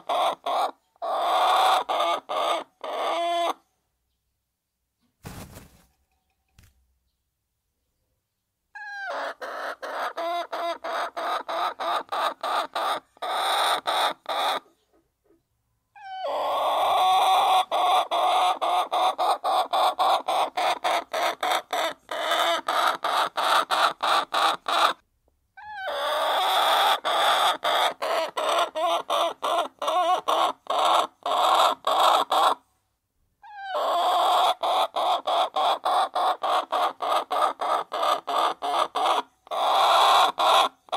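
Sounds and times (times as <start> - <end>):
hens clucking: 0.0 - 3.6, 8.8 - 15.4, 16.0 - 25.0, 25.7 - 32.6, 33.6 - 40.9.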